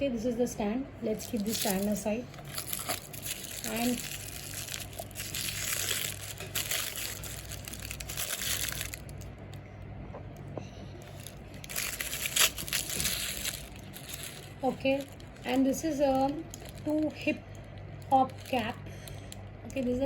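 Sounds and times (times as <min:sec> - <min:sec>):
plastic packaging crinkling: 0:01.1 - 0:09.6, 0:11.0 - 0:20.0.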